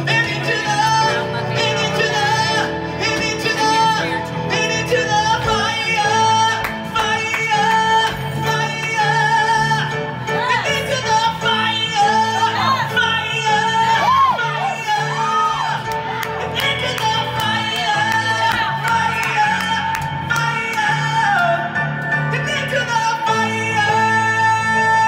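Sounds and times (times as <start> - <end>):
rock band accompaniment: 0.0 - 25.0.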